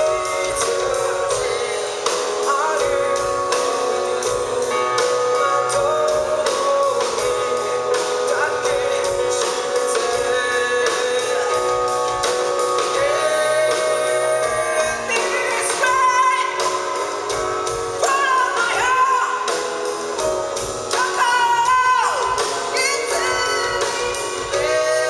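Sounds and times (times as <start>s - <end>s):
live rock band playing a ballad: 0.0s - 25.0s
person singing: 0.0s - 25.0s.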